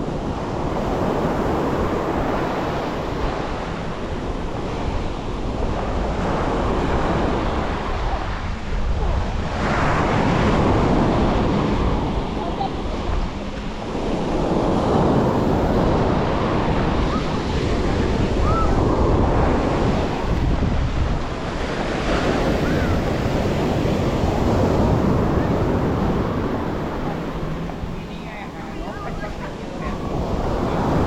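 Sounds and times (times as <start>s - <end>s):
surf washing onto beach: 0.0s - 31.0s
wind buffeting microphone: 0.0s - 31.0s.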